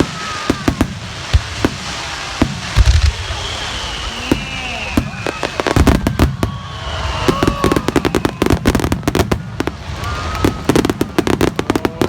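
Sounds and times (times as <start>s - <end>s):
fireworks bangs and crackles: 0.0s - 12.0s
fireworks whistling: 0.0s - 12.0s.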